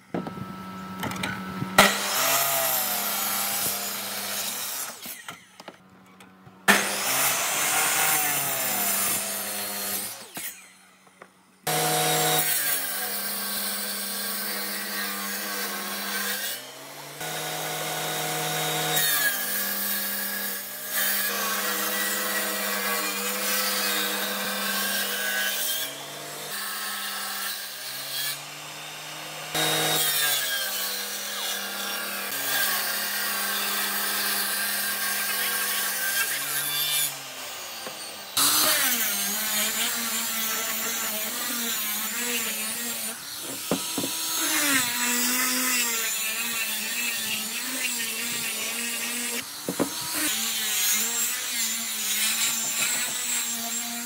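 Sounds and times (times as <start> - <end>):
angle grinder sanding wood: 0.0 - 5.5, 6.7 - 10.7, 11.7 - 54.0
table saw cutting wood: 0.0 - 5.8, 6.6 - 54.0.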